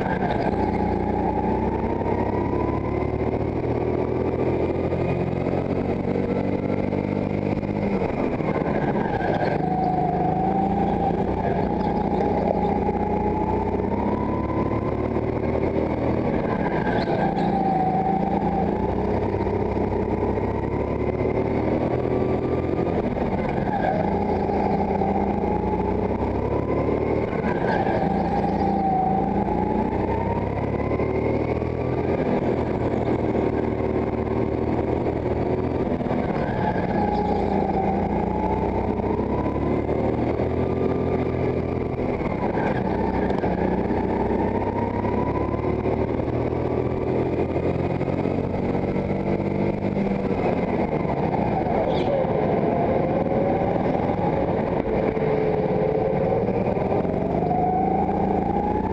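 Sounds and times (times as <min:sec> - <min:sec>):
go-kart engine revving: 0:00.0 - 0:58.9.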